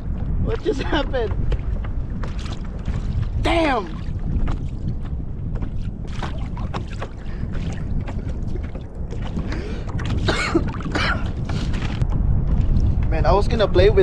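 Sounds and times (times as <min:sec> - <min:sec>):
water splashes: 0:00.0 - 0:13.0
water sloshing around kayak: 0:00.0 - 0:13.1
wind rumble on microphone: 0:00.0 - 0:14.0.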